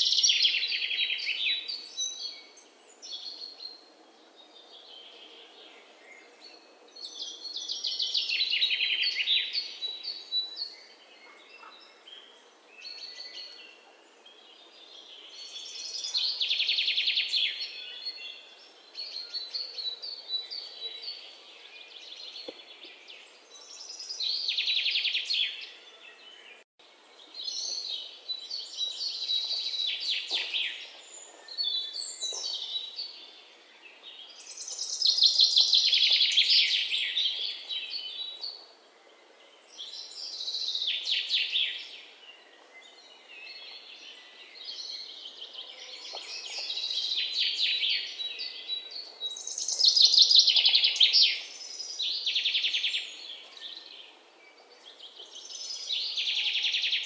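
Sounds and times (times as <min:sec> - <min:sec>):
quiet bird chirps: 0:00.0 - 0:57.0.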